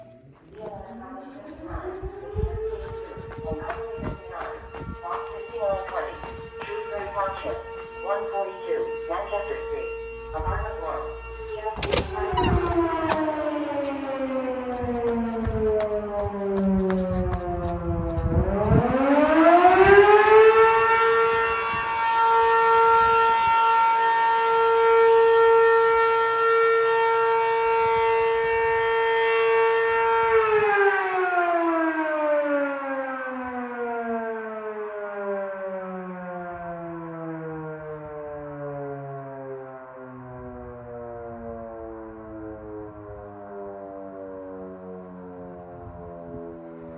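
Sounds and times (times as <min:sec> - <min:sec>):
fire siren wailing: 0:01.5 - 0:46.8.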